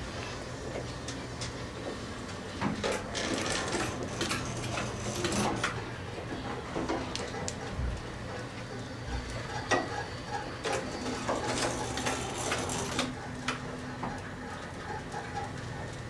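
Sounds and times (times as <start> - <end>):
elevator machinery low hum: 0.0 - 16.0
elevator rattling: 1.1 - 16.0.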